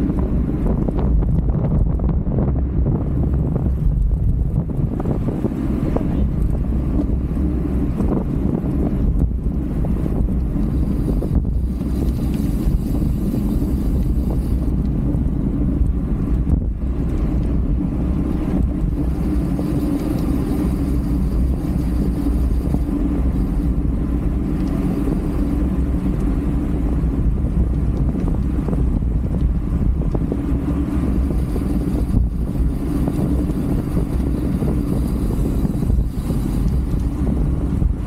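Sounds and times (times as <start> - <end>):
road noise: 0.0 - 38.0
wind rushing on microphone: 0.0 - 38.0.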